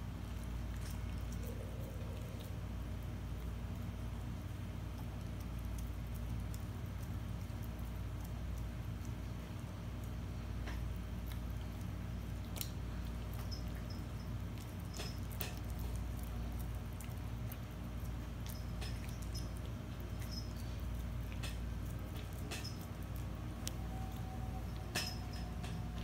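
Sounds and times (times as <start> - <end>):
low background hum: 0.0 - 26.0
puppy chewing bread: 0.0 - 26.0.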